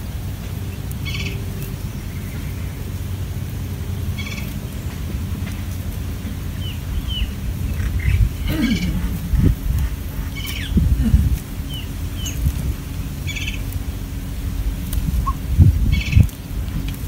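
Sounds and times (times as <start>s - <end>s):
birds chirping: 0.0s - 17.0s
buzzy bird calls: 0.0s - 17.0s
low rumble: 0.0s - 17.0s.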